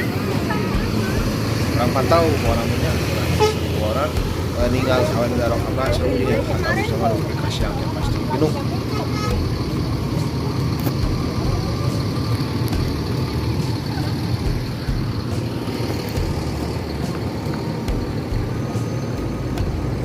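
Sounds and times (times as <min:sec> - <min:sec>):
diesel bus engine rumbling: 0:00.0 - 0:20.0.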